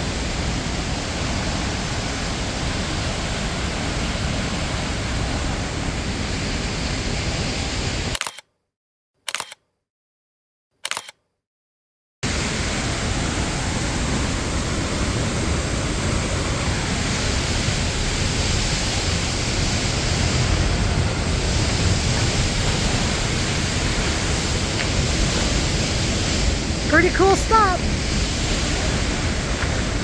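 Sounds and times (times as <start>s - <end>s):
waterfall rushing: 0.0s - 7.3s, 12.3s - 30.0s.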